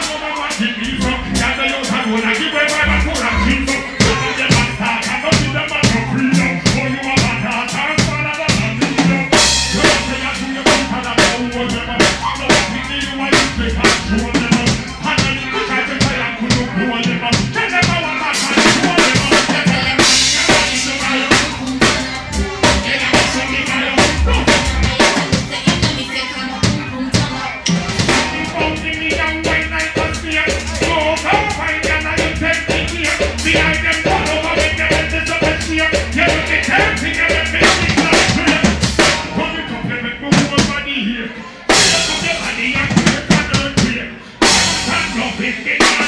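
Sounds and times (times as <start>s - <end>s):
beatboxing into a microphone: 0.0s - 46.0s.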